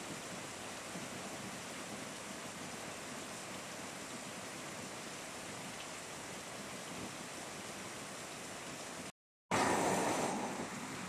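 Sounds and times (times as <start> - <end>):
heavy rain on leaves: 0.0 - 11.0.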